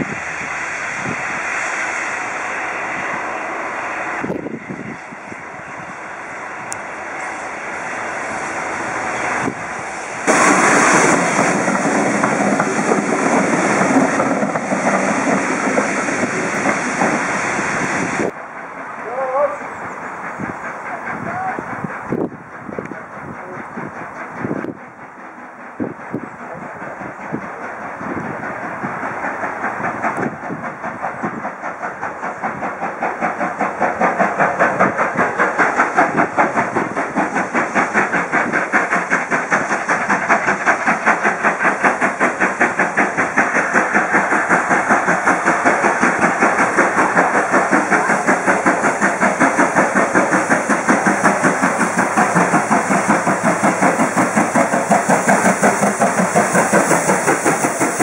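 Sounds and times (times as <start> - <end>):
steam engine exhaust chuffing: 0.0 - 58.0.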